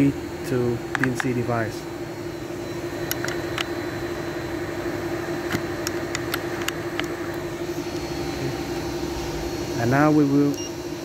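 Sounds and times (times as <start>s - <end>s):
machine hum with steady tone: 0.0s - 11.0s.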